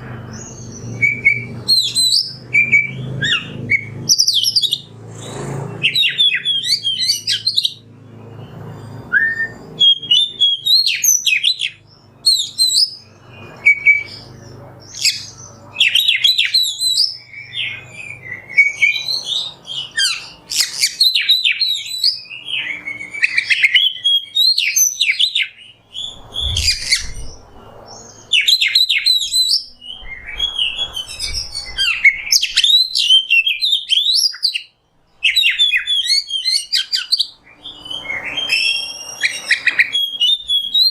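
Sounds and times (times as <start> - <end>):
bird singing whistles and chatter: 0.2 - 40.9.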